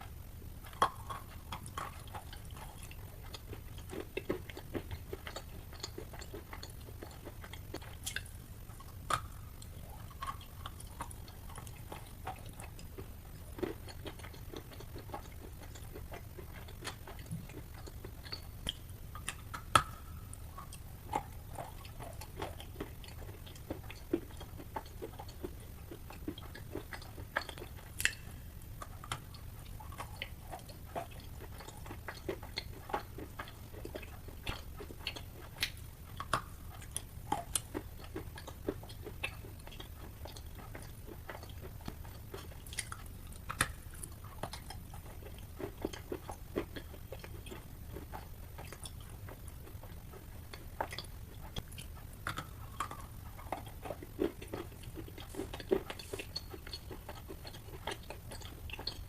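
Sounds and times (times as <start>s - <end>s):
chewing crunches and clicks: 0.0s - 59.0s
steady low hum: 0.0s - 59.0s.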